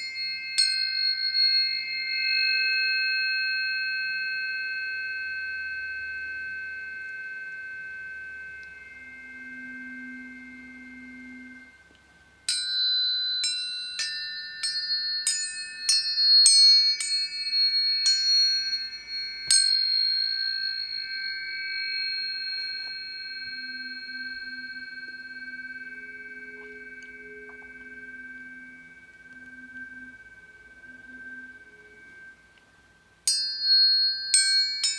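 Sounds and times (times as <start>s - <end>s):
low humming tone: 0.0s - 34.9s
tuning fork strikes: 0.0s - 34.9s
tuning forks ringing: 0.0s - 34.9s.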